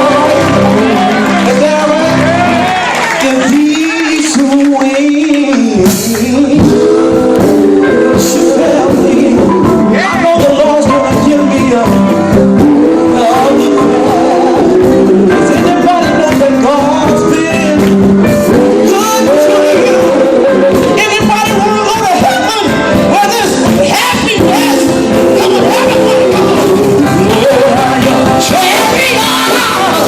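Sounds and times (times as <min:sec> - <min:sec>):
band with steady drum beat: 0:00.0 - 0:30.0
men singing gospel: 0:00.0 - 0:30.0.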